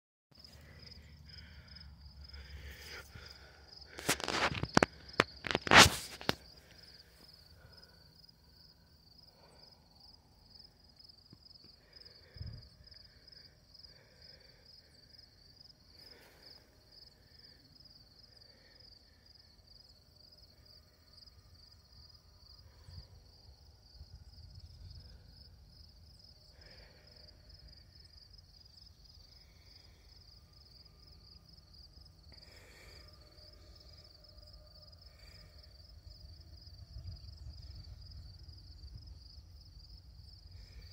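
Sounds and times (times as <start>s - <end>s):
insects chirping trill: 0.4s - 40.9s.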